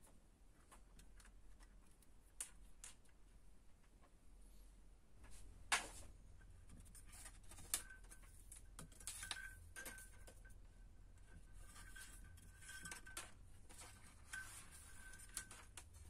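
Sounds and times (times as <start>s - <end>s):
wires clicking and tapping: 0.0s - 4.2s, 5.2s - 16.0s.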